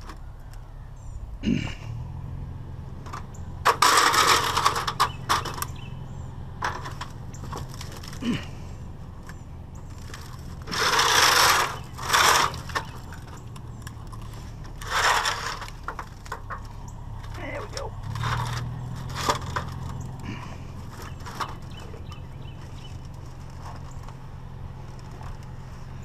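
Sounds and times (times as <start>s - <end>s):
sheet metal scraping on asphalt: 2.9s - 26.0s.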